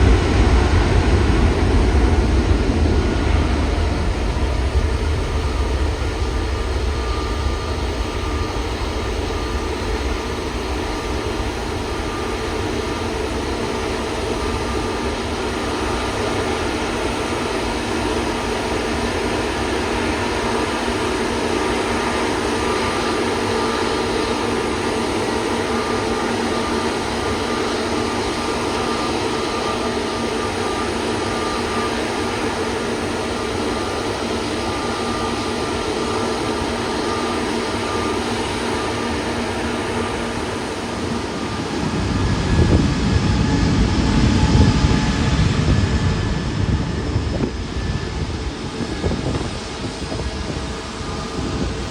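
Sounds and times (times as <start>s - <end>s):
faint steady whine: 0.0s - 51.9s
jet engines running: 0.0s - 51.9s.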